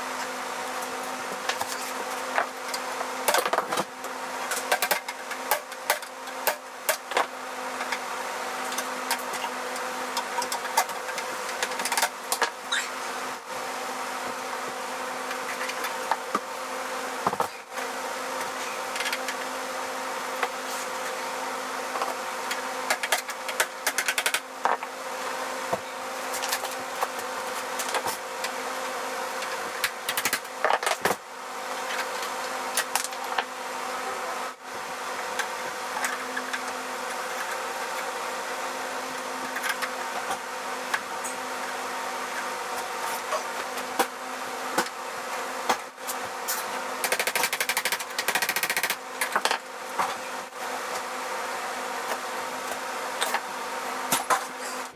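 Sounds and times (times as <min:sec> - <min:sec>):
steady buzzing hum: 0:00.0 - 0:54.9.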